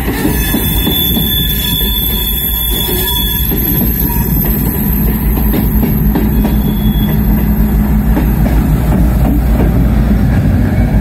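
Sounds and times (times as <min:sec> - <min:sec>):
diesel locomotive passing: 0:00.0 - 0:11.0
freight cars rumbling: 0:00.0 - 0:11.0.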